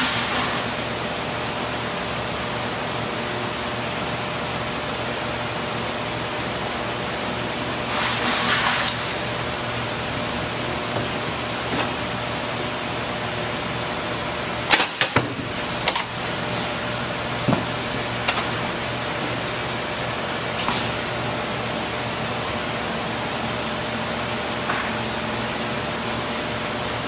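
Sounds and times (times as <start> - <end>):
ventilation hum: 0.0 - 27.0.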